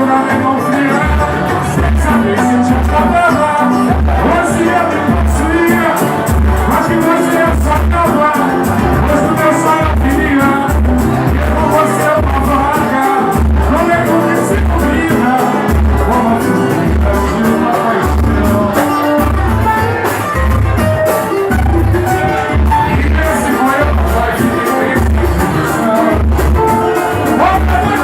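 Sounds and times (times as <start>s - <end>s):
person singing: 0.0s - 28.0s
samba band playing: 0.0s - 28.0s
deep drum beat: 0.4s - 28.0s.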